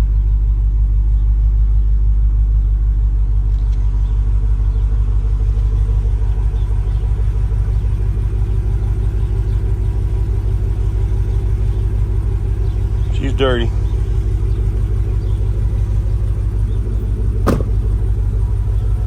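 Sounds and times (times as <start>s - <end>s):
engine idling exhaust rumble: 0.0s - 19.0s.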